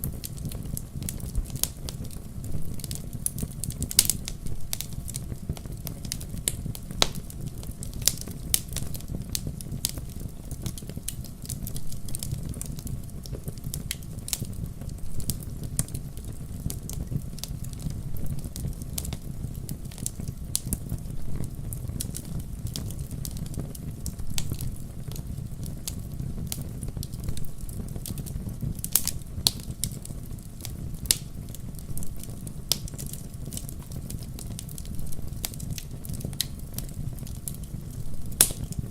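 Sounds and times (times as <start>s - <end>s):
fire crackling and popping: 0.0s - 38.9s
low rumble of fire: 0.0s - 38.9s.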